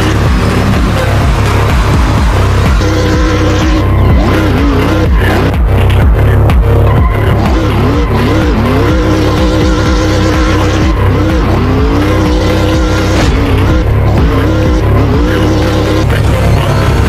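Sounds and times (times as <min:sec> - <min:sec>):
electronic track with heavy bass beat: 0:00.0 - 0:17.0
race car engine revving: 0:00.0 - 0:17.0.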